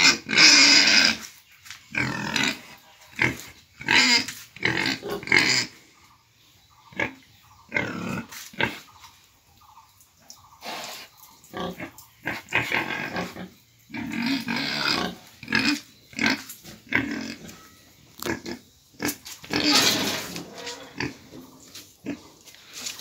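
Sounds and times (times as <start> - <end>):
pigs squealing and grunting: 0.0 - 1.3, 1.9 - 5.9, 6.9 - 9.1, 10.6 - 22.3.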